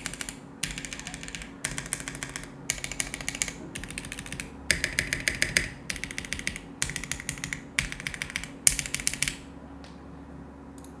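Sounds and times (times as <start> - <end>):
mechanical keyboard typing: 0.0 - 9.5.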